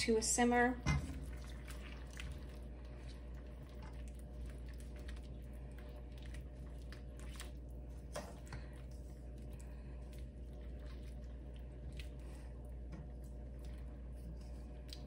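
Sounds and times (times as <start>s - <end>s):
low hum: 0.0s - 15.0s
spatula stirring wet vegetables: 0.0s - 15.0s.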